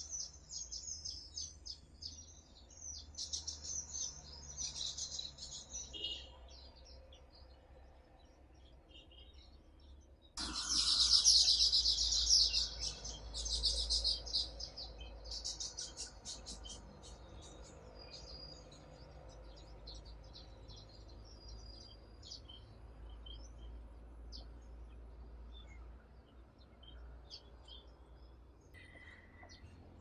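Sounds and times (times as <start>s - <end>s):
bird chirping chatter: 0.0s - 7.5s, 8.6s - 30.0s.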